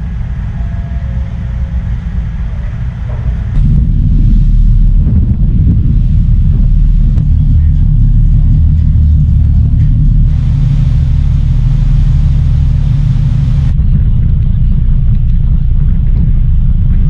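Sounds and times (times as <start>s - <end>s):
ferry engines rumbling: 0.0s - 17.0s.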